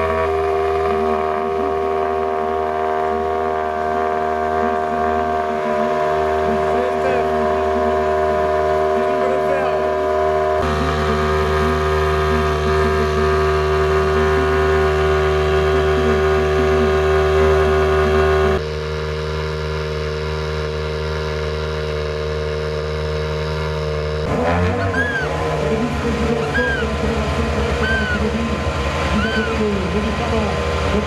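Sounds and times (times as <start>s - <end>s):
rally car engines idling: 0.0s - 31.0s
rough pulsing engine idle: 0.0s - 31.0s.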